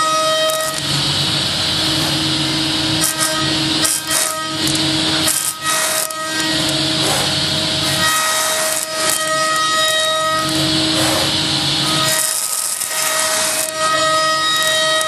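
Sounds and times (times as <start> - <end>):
metal milling whine: 0.0 - 15.0.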